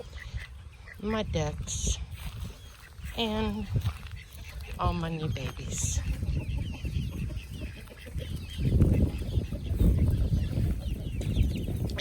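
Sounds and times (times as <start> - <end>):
chicks peeping and chirping: 0.0 - 12.0
low microphone rumble: 0.0 - 12.0.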